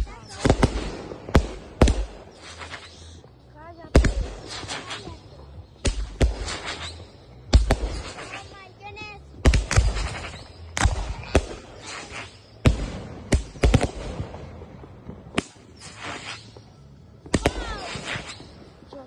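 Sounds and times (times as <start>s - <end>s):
fireworks bangs: 0.0s - 19.0s
fireworks crackling hiss: 0.0s - 19.0s.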